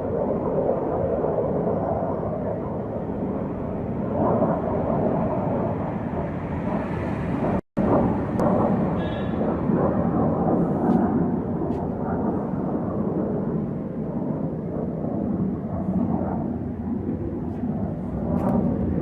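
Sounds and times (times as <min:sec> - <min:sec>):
jet flying overhead: 0:00.0 - 0:19.0.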